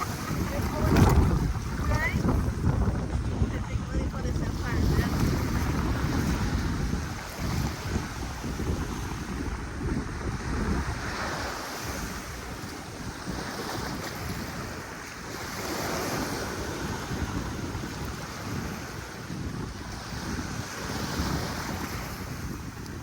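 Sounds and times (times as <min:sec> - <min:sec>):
sea waves washing onto shore: 0:00.0 - 0:23.0
wind gusting on microphone: 0:00.0 - 0:23.0.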